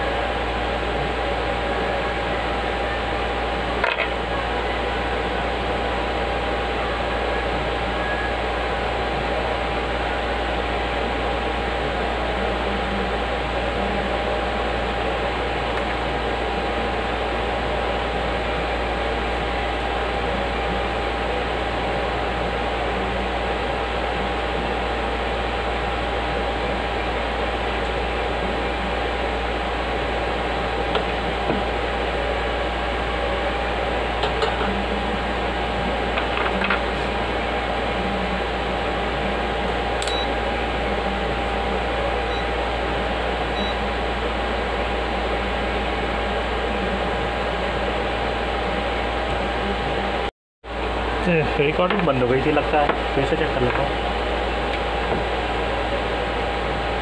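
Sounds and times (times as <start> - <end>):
constant hum tone: 0.0 - 57.0
steady fan noise: 0.0 - 57.0.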